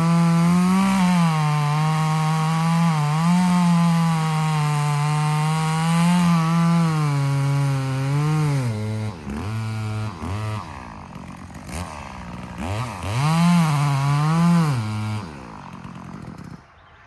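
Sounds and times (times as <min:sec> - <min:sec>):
chainsaw cutting wood: 0:00.0 - 0:16.8.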